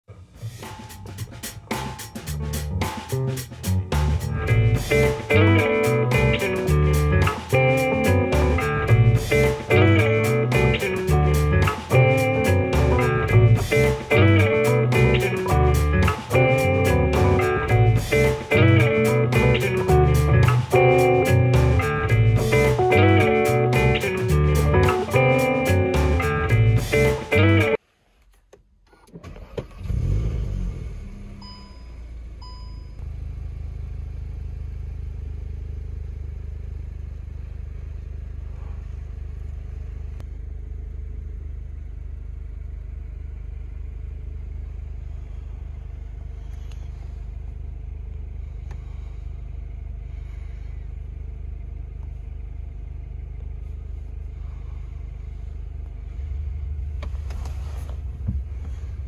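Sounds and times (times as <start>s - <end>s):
car engine starting and idling: 0.0s - 59.0s.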